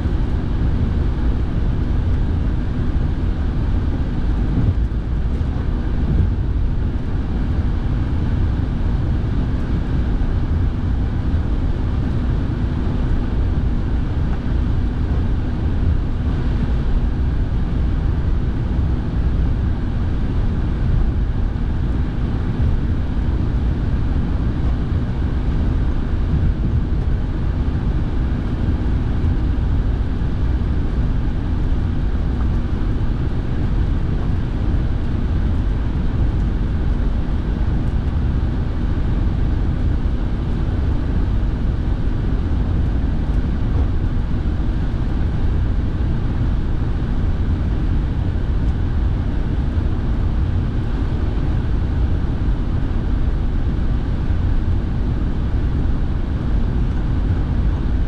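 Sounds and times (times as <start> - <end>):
car engine and tyre rumble: 0.0 - 58.0
heater fan blowing: 0.0 - 58.0.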